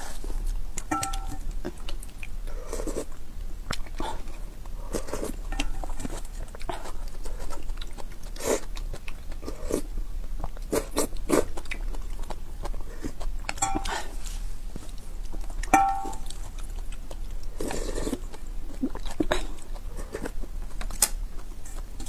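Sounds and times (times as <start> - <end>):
chewing with wet mouth clicks: 0.3 - 22.0.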